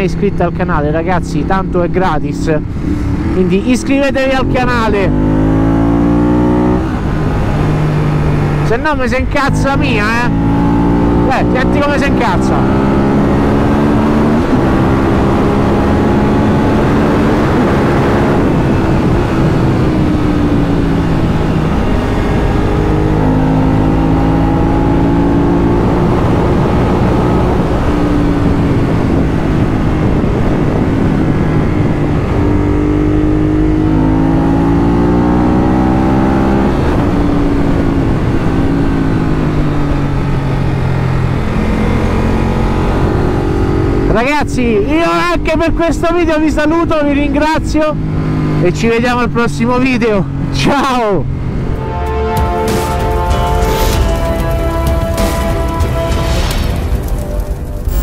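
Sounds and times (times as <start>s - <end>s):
motorcycle engine revving: 0.0s - 45.6s, 47.1s - 58.0s.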